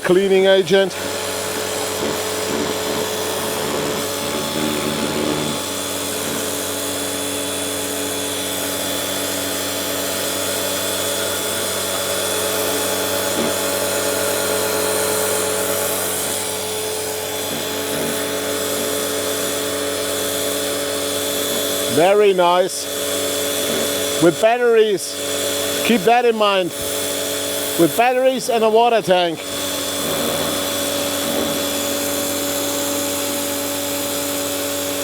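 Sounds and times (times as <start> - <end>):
water jet spraying on stone: 0.0 - 24.4, 25.1 - 26.0, 26.6 - 35.0
pump motor whine: 0.0 - 35.0.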